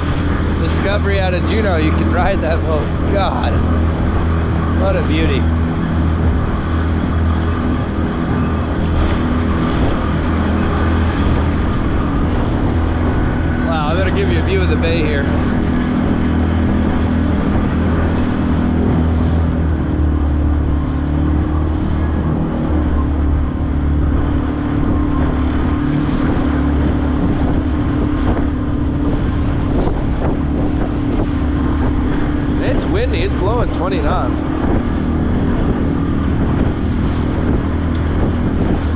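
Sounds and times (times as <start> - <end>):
outboard motor running: 0.0 - 38.9
wind buffeting microphone: 0.0 - 38.9.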